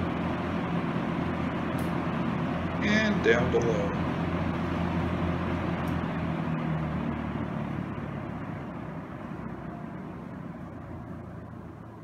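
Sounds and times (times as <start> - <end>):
box fan running: 0.0 - 12.0.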